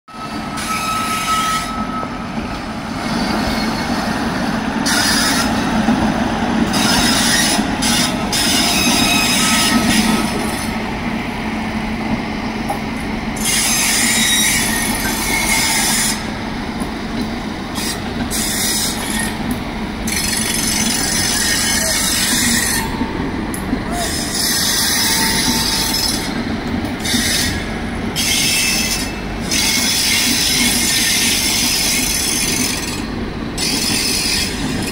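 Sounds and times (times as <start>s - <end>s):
train wheels rumbling on rails: 0.1s - 34.9s.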